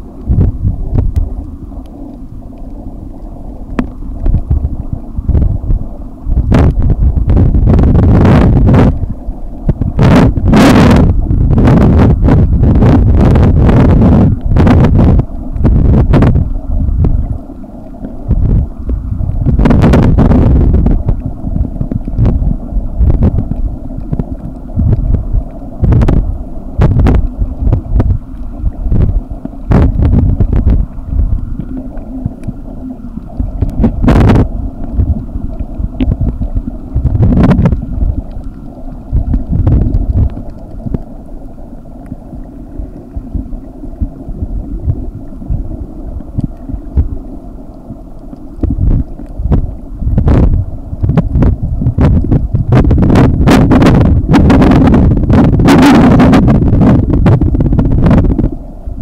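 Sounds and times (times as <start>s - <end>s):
muffled underwater rumble: 0.0s - 59.0s.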